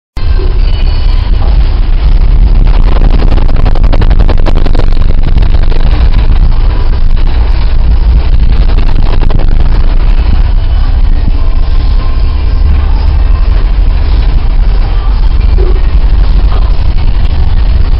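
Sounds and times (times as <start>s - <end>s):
rapid crackling: 0.2s - 17.9s
rough sea rumble: 0.2s - 17.9s.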